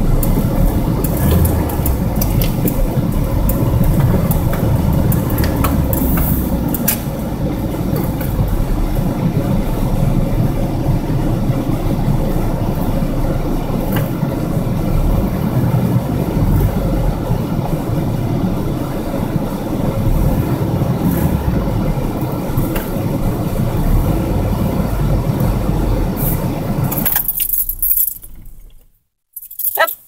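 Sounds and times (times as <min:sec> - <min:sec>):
car engine running: 0:00.0 - 0:29.0
road noise: 0:00.0 - 0:30.0.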